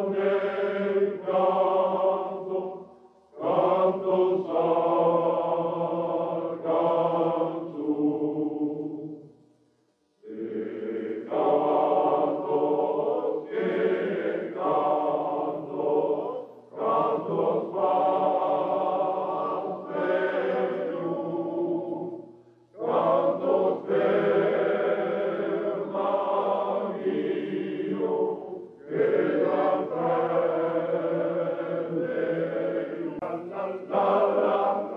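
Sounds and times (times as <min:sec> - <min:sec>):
choir singing: 0:00.0 - 0:09.3, 0:10.2 - 0:34.9.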